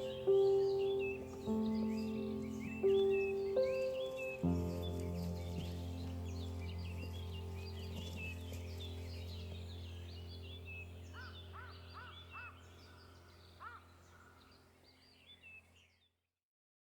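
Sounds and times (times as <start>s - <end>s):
rising-and-falling bird calls: 0.0s - 15.7s
small birds chirping: 0.0s - 16.2s.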